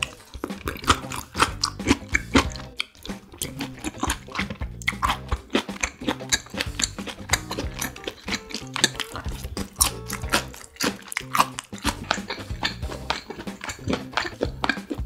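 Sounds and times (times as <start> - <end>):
background music: 0.0 - 15.0
wet chewing and mouth clicks: 0.0 - 15.0.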